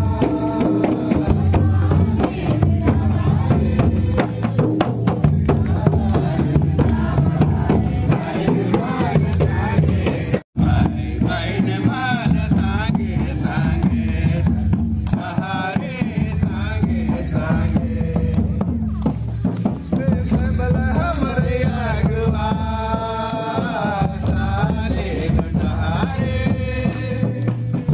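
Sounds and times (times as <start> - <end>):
group singing: 0.0 - 27.9
hand drums beating: 0.0 - 27.9.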